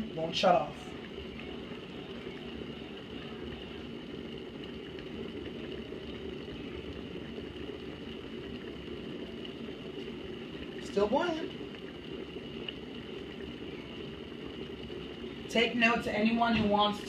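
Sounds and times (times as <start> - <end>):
water boiling in kettle: 0.0 - 17.0.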